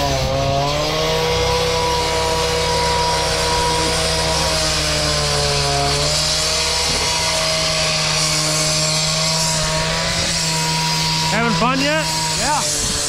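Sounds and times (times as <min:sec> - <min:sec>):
cut-off saw engine drone: 0:00.0 - 0:13.0
saw blade hissing through concrete: 0:00.0 - 0:13.0.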